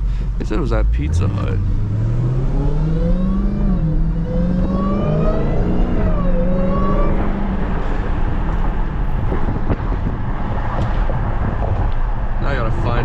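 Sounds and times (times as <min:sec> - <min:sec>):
car engine while driving: 0:00.0 - 0:13.0
road noise: 0:00.0 - 0:13.0.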